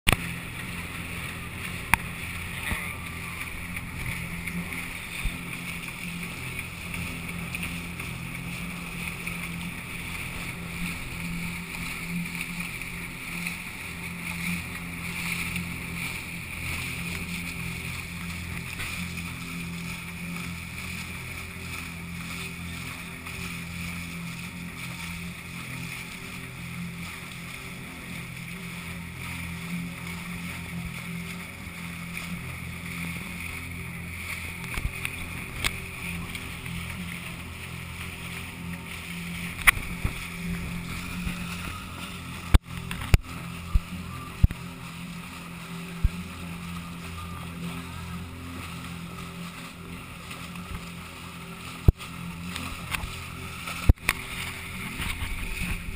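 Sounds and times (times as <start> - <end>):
boat engine running: 0.0 - 55.9
water rushing along hulls: 0.0 - 55.9.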